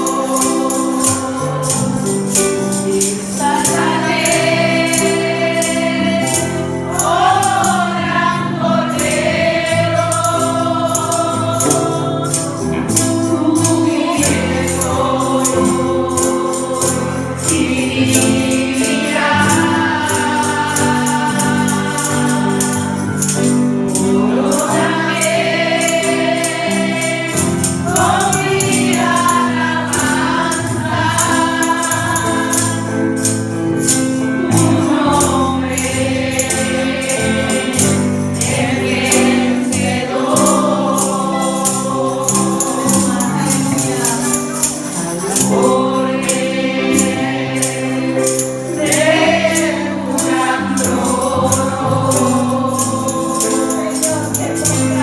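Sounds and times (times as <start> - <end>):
group singing praise song: 0.0 - 55.0
instrumental backing: 0.0 - 55.0
shaker percussion beat: 0.0 - 55.0.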